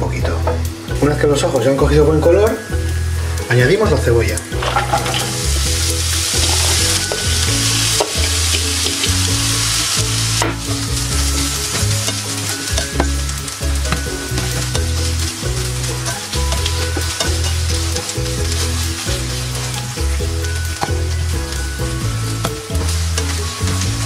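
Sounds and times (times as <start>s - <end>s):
onion sizzling in oil: 0.0s - 24.0s.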